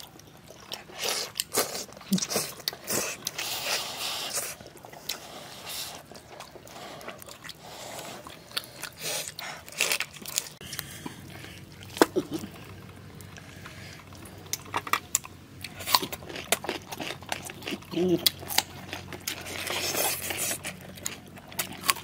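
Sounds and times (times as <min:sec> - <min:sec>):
chicken being chewed: 0:00.0 - 0:22.0.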